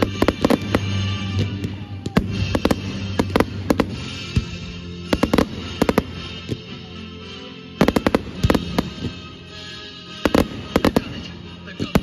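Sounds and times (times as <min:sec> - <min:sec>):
fireworks banging: 0:00.0 - 0:06.8, 0:07.8 - 0:09.5, 0:10.1 - 0:12.0
music playing: 0:00.0 - 0:12.0.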